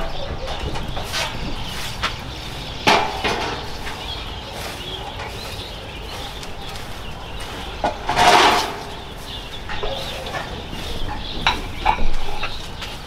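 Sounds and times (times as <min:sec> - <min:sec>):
animal calls: 0:00.0 - 0:13.0.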